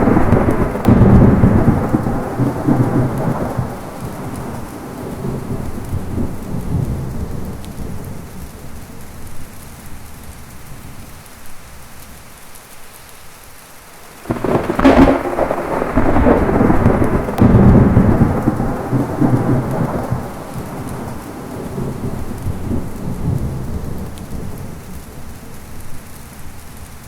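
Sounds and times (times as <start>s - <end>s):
thunderclap and rumbling thunder: 0.0s - 11.3s, 14.2s - 26.6s
steady rain: 0.0s - 27.0s.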